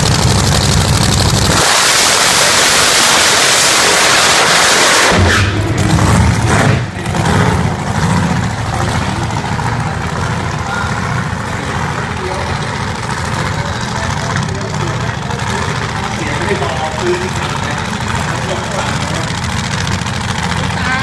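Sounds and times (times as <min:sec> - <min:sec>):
loud engine at full throttle: 0:00.0 - 0:21.0.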